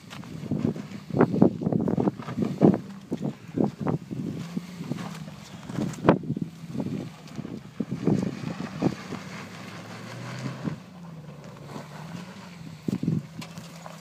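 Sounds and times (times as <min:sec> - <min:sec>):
engine running at low revs: 0:00.0 - 0:14.0
wind noise: 0:00.0 - 0:14.0.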